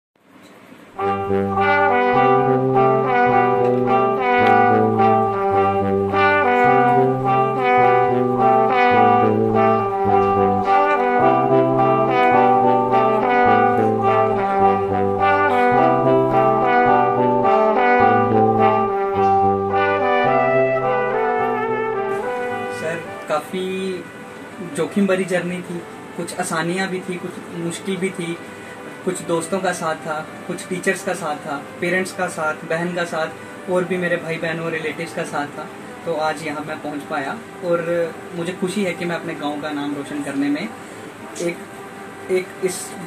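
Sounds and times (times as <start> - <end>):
instrumental background music: 1.0 - 43.0.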